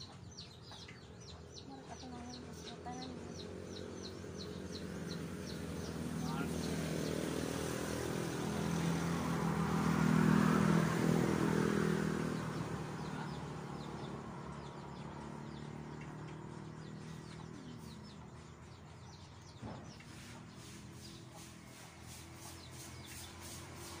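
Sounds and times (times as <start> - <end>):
birds chirping: 0.0 - 24.0
vehicle engine passing by: 0.0 - 24.0.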